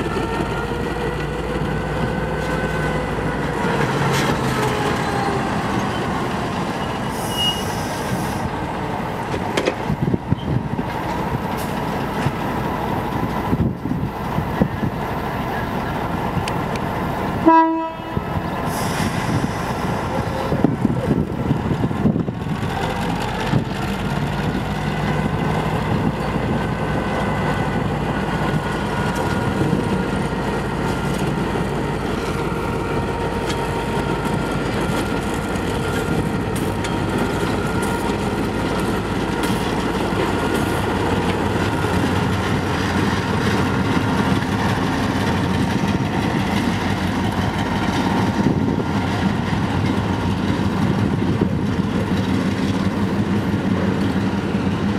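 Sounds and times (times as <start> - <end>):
locomotive diesel engine running: 0.0 - 54.9.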